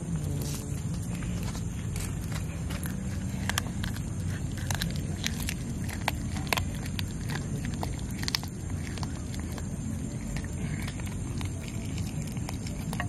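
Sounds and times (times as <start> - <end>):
cat chewing crunchily: 0.0 - 13.0
low background rumble: 0.0 - 13.0.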